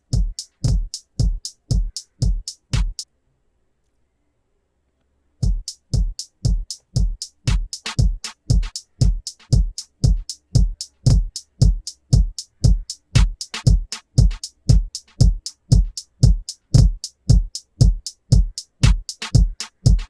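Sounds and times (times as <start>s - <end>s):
drum machine loop: 0.0s - 3.0s, 5.4s - 20.0s.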